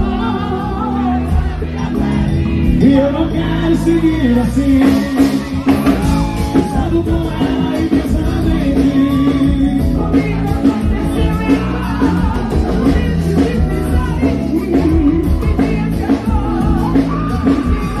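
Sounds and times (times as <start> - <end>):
man singing: 0.0 - 1.8, 2.6 - 18.0
live band with drums and bass: 0.0 - 18.0.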